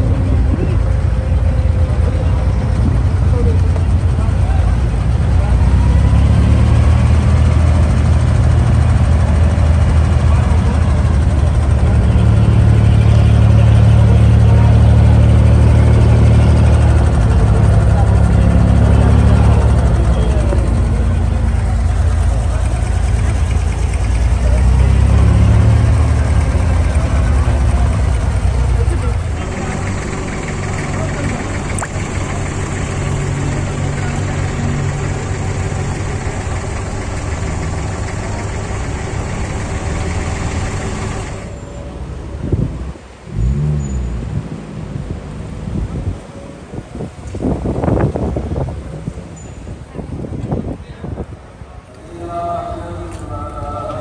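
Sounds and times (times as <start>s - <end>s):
boat diesel engine droning: 0.0s - 44.2s.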